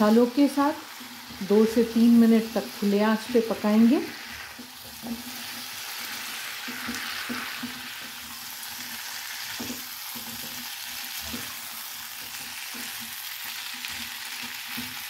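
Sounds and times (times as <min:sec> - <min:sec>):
spatula knocking and scraping wok: 0:00.0 - 0:15.0
vegetables sizzling in oil: 0:00.0 - 0:15.0.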